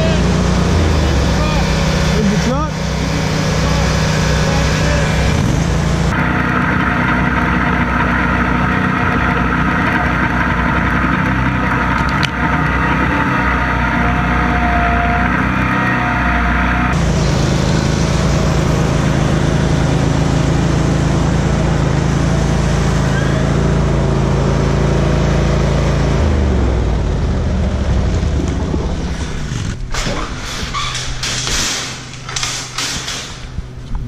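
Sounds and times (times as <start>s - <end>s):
riding mower engines running: 0.0s - 34.0s.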